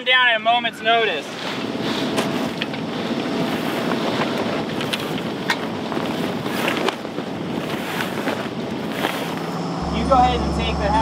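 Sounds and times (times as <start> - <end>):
water rushing along hull: 0.0 - 11.0
wind buffeting microphone: 1.3 - 11.0.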